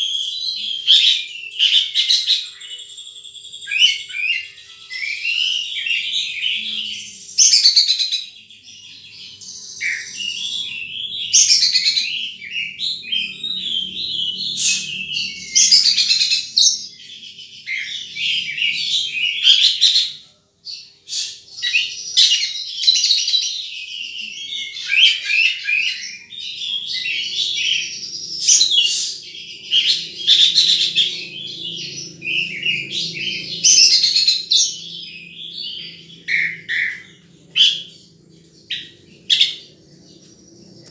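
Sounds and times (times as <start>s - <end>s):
bird singing high chirps and trills: 0.0s - 40.9s.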